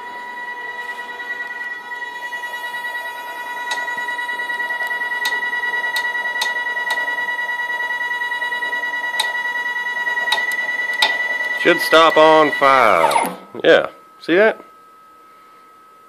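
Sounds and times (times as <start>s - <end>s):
stepper motor whine with pulsing: 0.0s - 13.4s.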